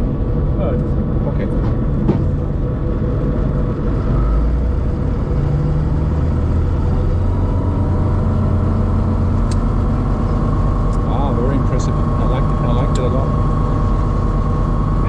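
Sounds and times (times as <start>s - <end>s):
aircraft engine droning: 0.0s - 15.0s.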